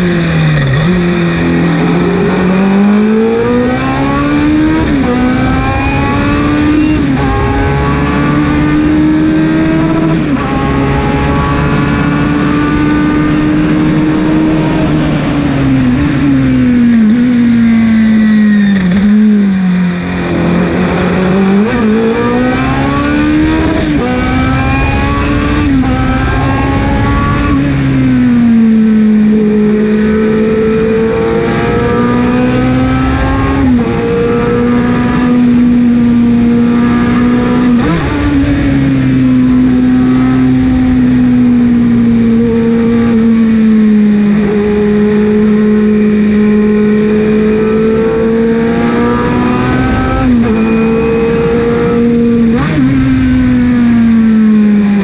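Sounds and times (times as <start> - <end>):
racing engine at high revs: 0.0 - 55.0.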